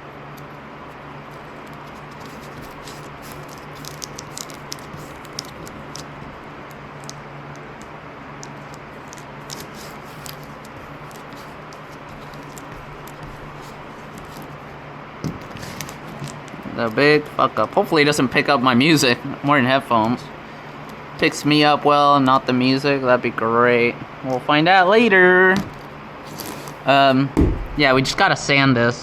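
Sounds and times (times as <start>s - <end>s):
steady low hum: 0.0s - 29.0s
foam and glue peeling crackles: 0.3s - 14.8s, 15.4s - 22.4s, 25.4s - 28.1s.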